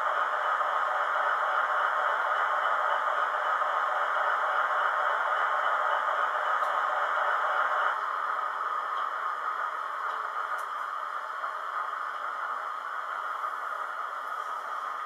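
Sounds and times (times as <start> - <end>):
model diesel engine sound hissing hum: 0.0 - 15.0.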